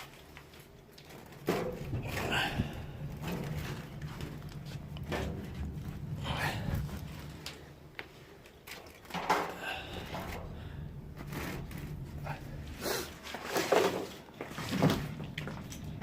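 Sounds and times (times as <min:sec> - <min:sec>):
rustling and handling noises: 0:00.0 - 0:16.0
steady low hum: 0:00.0 - 0:16.0.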